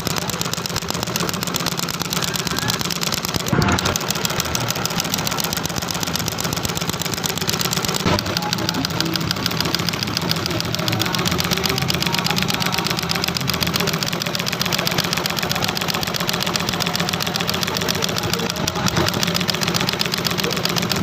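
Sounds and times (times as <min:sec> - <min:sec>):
sewing machine stitching: 0:00.0 - 0:21.0.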